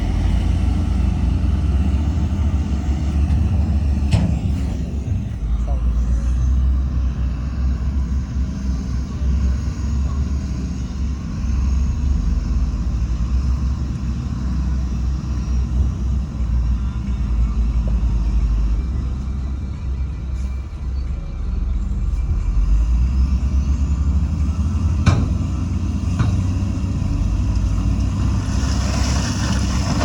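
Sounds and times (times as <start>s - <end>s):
heavy diesel machinery rumbling: 0.0s - 30.0s.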